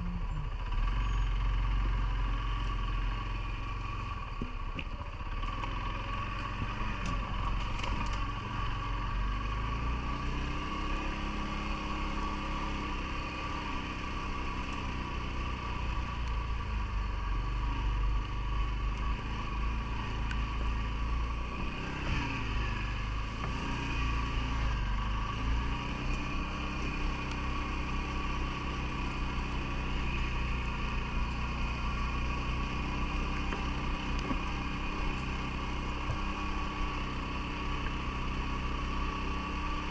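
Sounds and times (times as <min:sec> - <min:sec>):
atv engine revving: 0:05.2 - 0:39.9.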